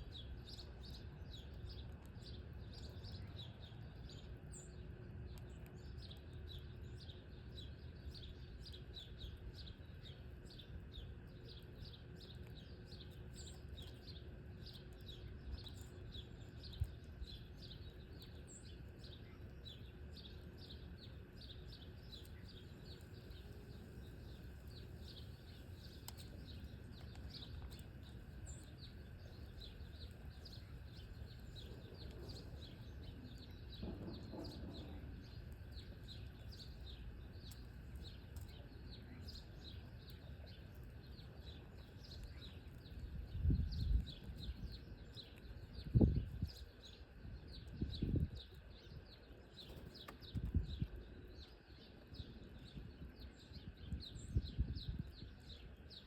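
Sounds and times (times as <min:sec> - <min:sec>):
songbirds chirping: 0:00.0 - 0:56.0
faint low rumble: 0:00.1 - 0:56.0.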